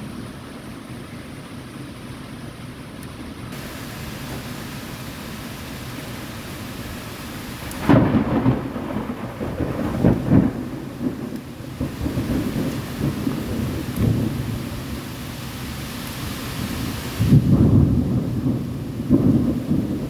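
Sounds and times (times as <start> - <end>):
steady rain: 0.0 - 20.0
thunder rumbling: 3.5 - 20.0.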